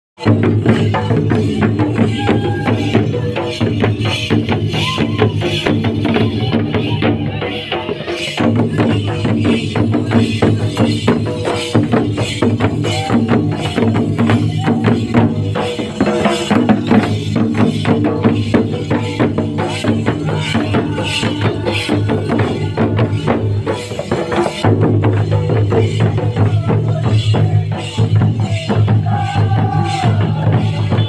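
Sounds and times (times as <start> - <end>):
folk music with drums and percussion: 0.2 - 31.0.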